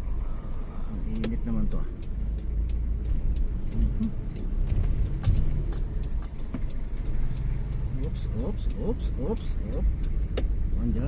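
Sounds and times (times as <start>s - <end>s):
light ticking: 0.0s - 11.0s
vehicle engine and road rumble: 0.0s - 11.0s.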